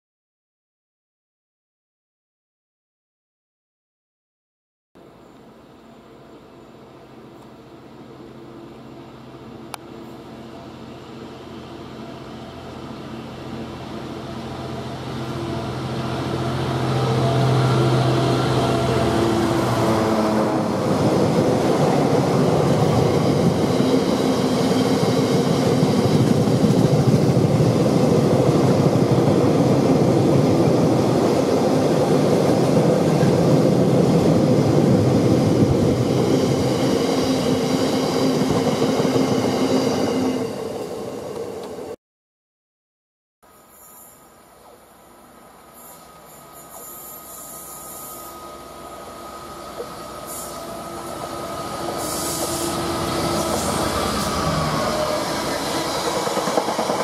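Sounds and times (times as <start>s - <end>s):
diesel locomotive engine under load: 5.0s - 42.0s, 44.0s - 57.0s
train wheels rumbling on rail: 7.1s - 42.0s, 45.7s - 57.0s.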